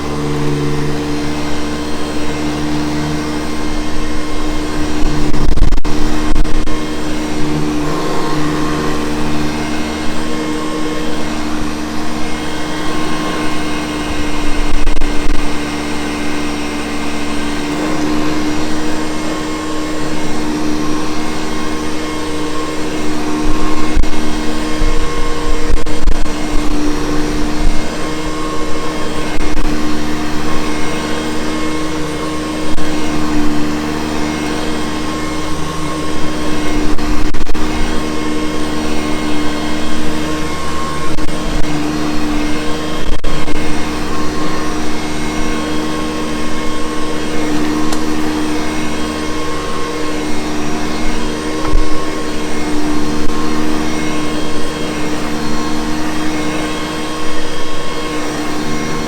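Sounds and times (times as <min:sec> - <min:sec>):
upright vacuum cleaner running: 0:00.0 - 0:59.0.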